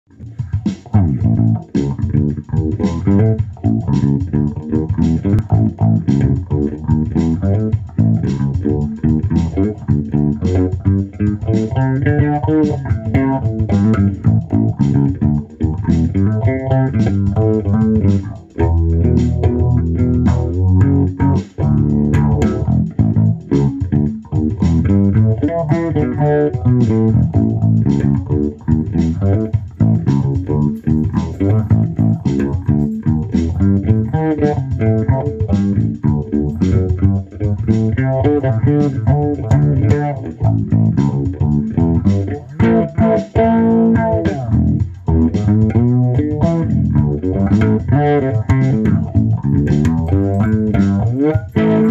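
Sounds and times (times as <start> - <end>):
electric bass guitar plucking: 0.1 - 51.9
steady beat: 0.1 - 51.9.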